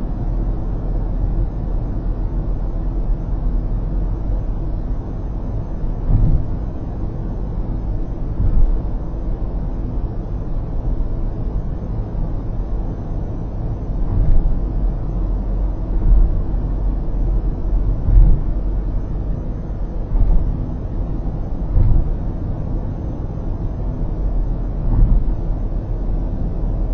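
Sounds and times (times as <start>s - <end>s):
heavy low bumps: 0.0s - 26.9s
road rumble and tyre noise: 0.0s - 26.9s.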